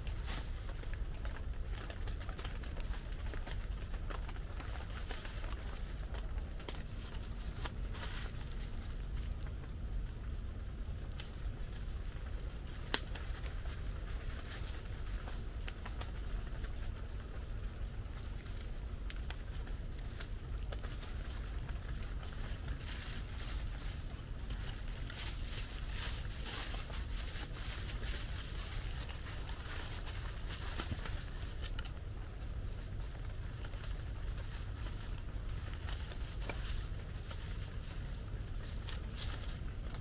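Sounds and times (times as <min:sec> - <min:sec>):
heavy rain on plastic sheeting: 0:00.0 - 0:40.0.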